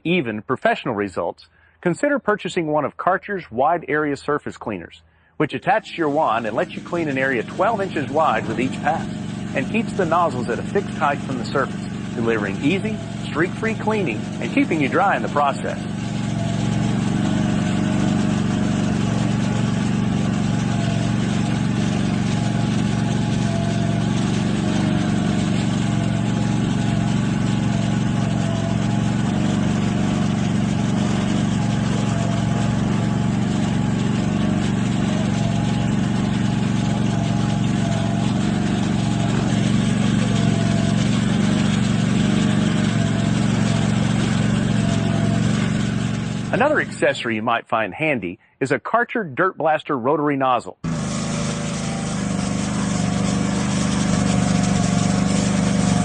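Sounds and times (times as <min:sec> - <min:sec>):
small engine humming: 0:05.6 - 0:47.1, 0:50.8 - 0:56.0
high-pressure water jet hissing: 0:05.8 - 0:47.0, 0:50.8 - 0:56.0.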